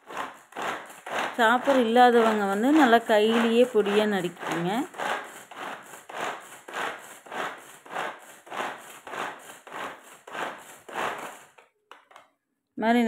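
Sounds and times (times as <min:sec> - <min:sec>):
vegetable chopper blades whirring: 0:00.0 - 0:11.5.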